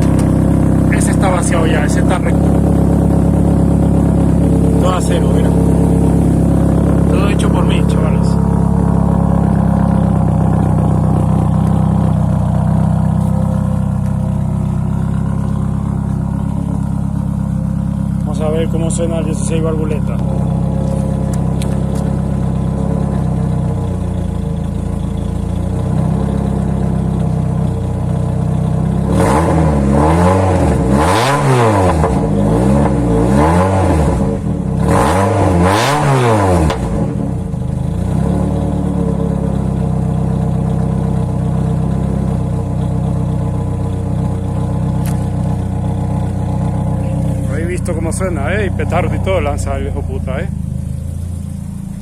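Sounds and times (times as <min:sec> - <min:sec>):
exhaust pop: 0:00.0 - 0:28.0, 0:30.4 - 0:40.9, 0:42.2 - 0:52.0
car engine idling and revving: 0:00.0 - 0:52.0.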